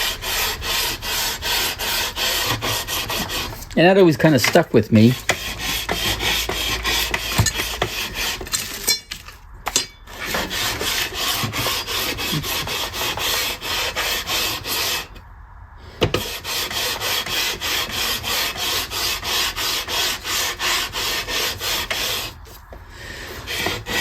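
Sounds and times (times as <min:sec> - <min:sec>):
sanding block rubbing wood: 0:00.0 - 0:08.8, 0:10.1 - 0:15.2, 0:16.0 - 0:24.0.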